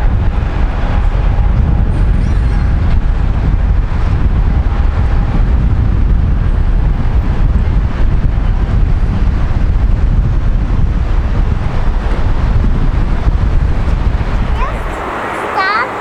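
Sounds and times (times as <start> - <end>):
jet engines deep rumble: 0.0 - 16.0
wind buffeting microphone: 0.0 - 16.0.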